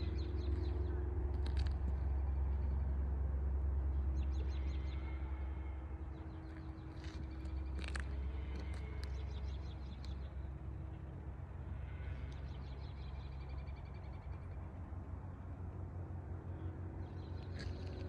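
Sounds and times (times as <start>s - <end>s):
machinery engine hum: 0.0s - 18.0s.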